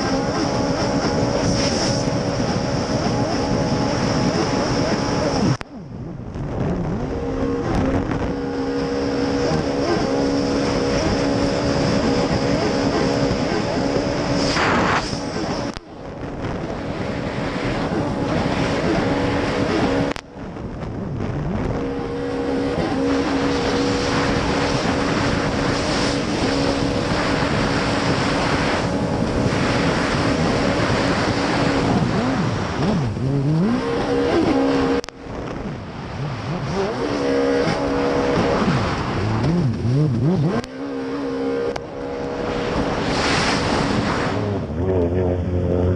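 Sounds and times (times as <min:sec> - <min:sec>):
wind rushing: 0:00.0 - 0:44.8
racing outboard engine running hard: 0:00.0 - 0:45.9
water rushing past: 0:00.0 - 0:45.9.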